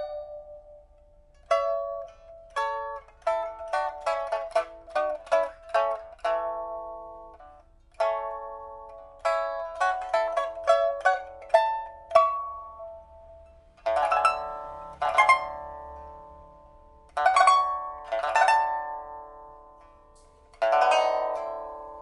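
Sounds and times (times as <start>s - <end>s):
pipa plucked notes: 0.0s - 22.0s.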